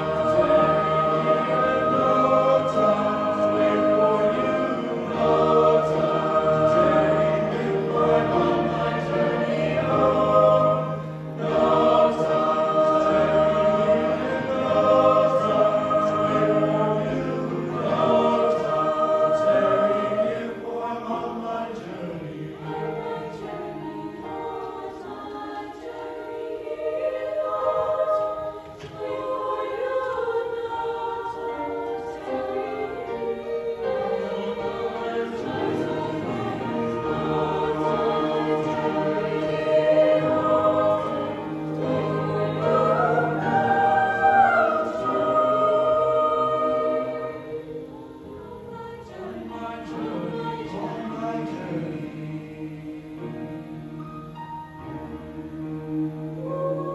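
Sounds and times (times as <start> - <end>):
youth choir singing in harmony: 0.0 - 56.9.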